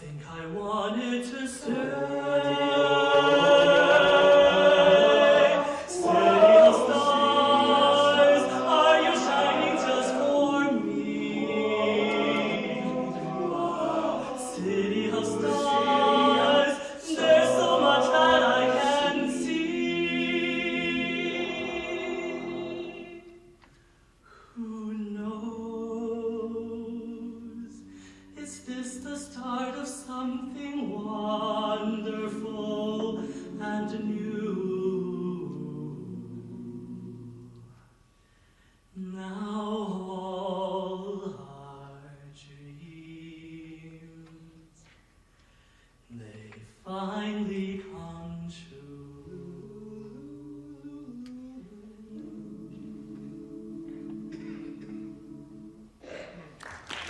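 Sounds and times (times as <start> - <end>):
male a cappella group singing: 0.0 - 23.5, 24.6 - 37.8, 39.0 - 44.9, 46.1 - 56.3.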